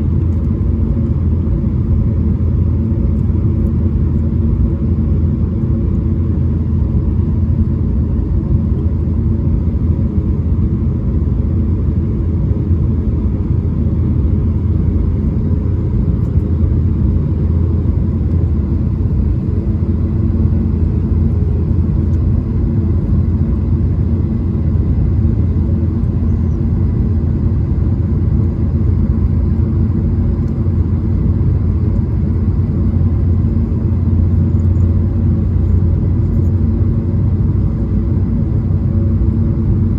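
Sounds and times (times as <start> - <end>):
airplane cabin rumble: 0.0 - 39.9
faint jet engine whine: 0.0 - 39.9.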